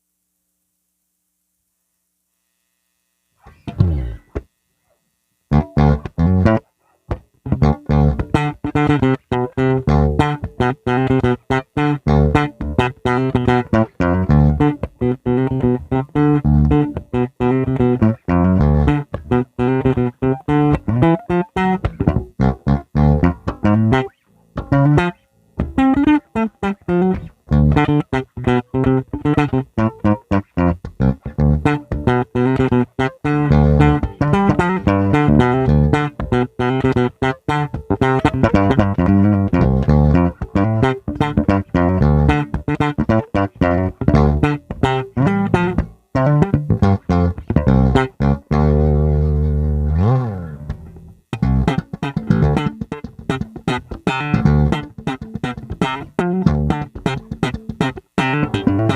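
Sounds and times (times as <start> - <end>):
electric bass plucked notes: 3.4 - 4.4, 5.5 - 58.9.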